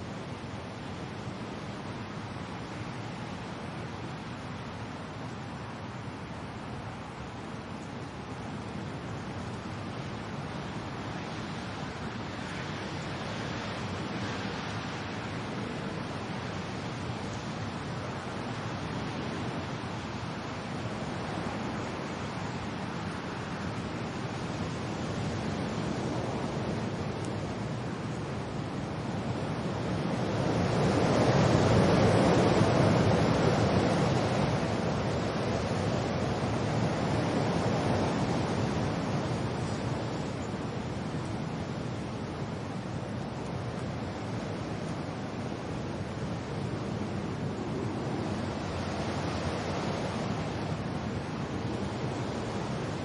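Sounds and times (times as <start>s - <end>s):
rain: 0.0s - 53.0s
wind: 0.0s - 53.0s.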